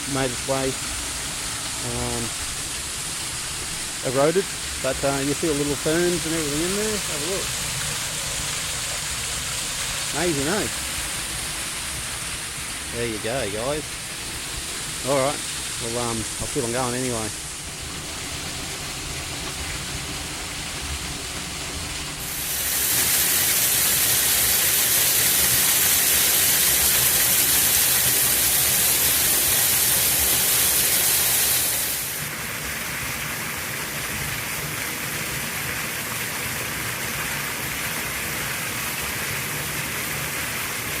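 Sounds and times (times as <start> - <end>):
waterfall rushing over rock: 0.0 - 41.0.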